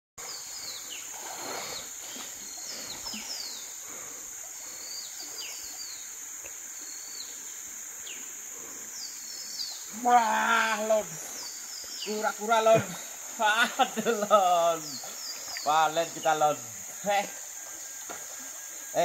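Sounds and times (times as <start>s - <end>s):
insects droning: 0.2s - 19.0s
soft background hiss: 0.3s - 19.0s.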